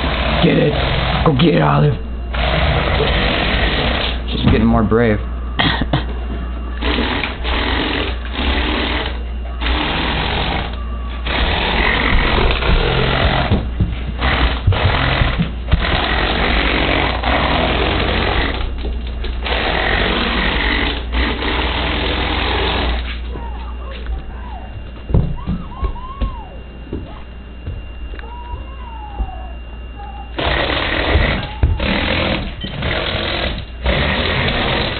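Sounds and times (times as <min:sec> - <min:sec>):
toy motors and gears running: 0:00.0 - 0:04.4, 0:06.7 - 0:13.6, 0:14.2 - 0:24.6, 0:28.2 - 0:34.9.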